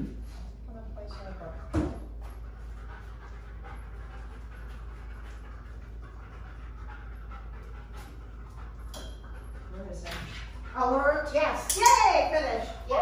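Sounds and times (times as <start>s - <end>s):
dog panting: 0.1s - 13.0s.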